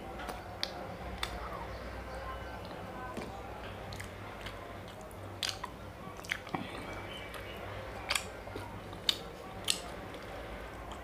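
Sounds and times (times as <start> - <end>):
chewing ice cream: 0.2 - 1.8, 2.6 - 11.0.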